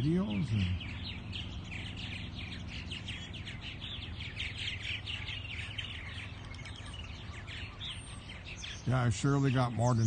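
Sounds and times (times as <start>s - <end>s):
birds chirping and chattering: 0.0s - 10.0s.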